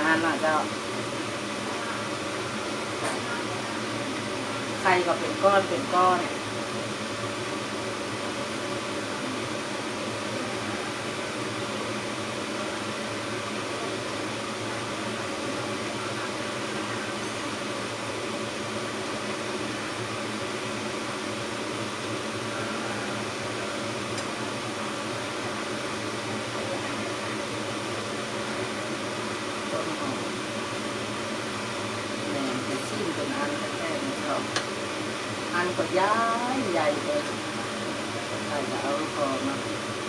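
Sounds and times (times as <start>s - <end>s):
stove hissing: 0.0s - 40.0s.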